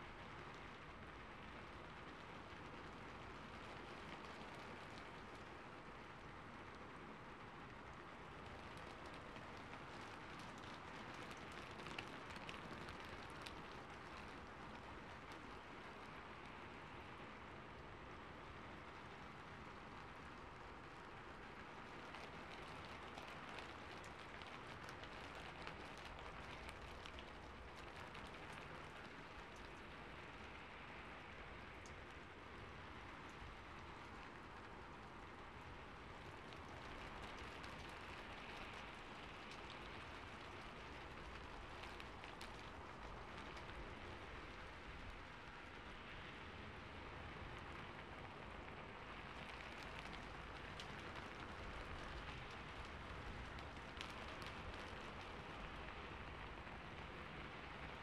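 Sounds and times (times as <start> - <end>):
rain on rooftop: 0.0 - 58.0
raindrop ticks: 0.0 - 58.0.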